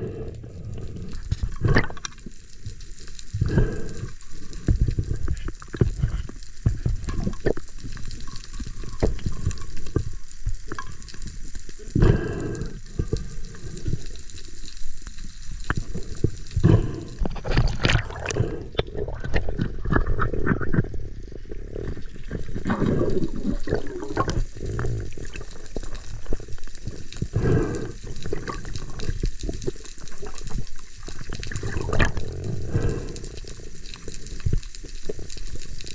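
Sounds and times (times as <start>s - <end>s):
water sloshing and gurgling: 0.0s - 35.9s.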